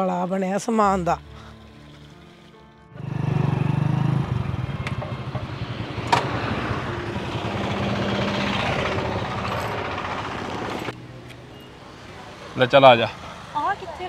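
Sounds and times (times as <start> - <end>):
vehicle engine running: 0.9 - 13.7.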